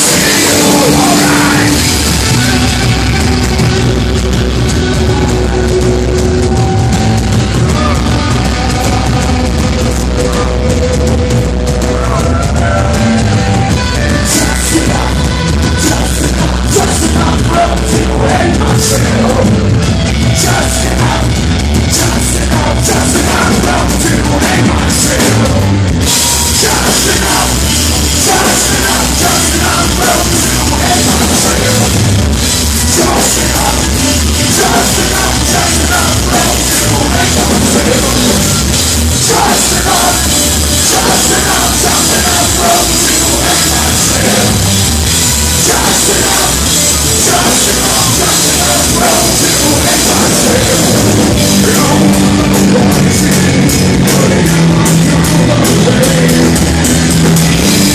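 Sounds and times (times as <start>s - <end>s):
drum kit: 0.0s - 57.9s
electric guitar: 0.0s - 57.9s.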